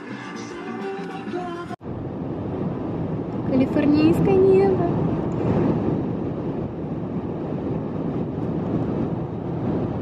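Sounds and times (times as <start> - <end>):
car road and wind noise: 1.8 - 10.0.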